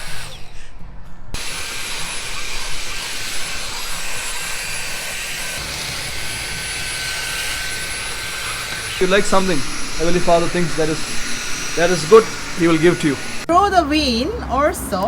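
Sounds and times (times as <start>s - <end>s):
stick vacuum running: 0.0s - 0.6s, 1.4s - 13.5s.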